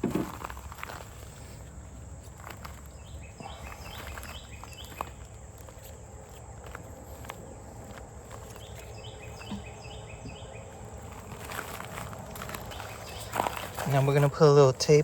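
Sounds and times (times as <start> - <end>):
wildlife chirping: 0.8 - 15.0.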